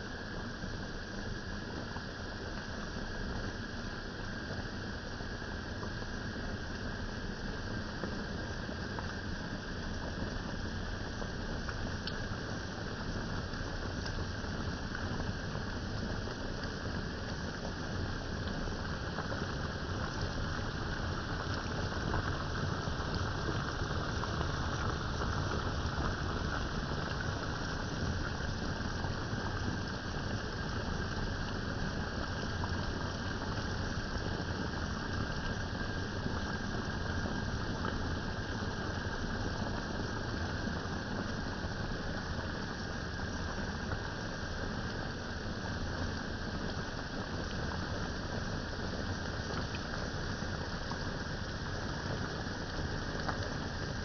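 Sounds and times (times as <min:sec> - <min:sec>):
pot simmering hiss: 0:00.0 - 0:54.0.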